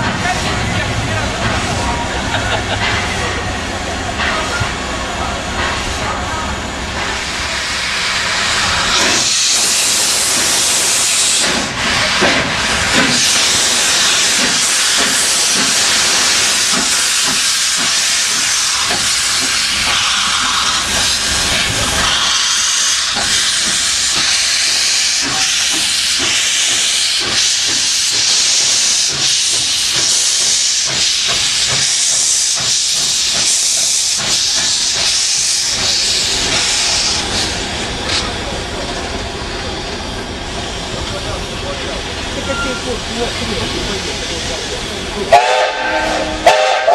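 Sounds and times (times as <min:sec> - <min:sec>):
steam locomotive hissing steam: 0:00.0 - 0:46.9.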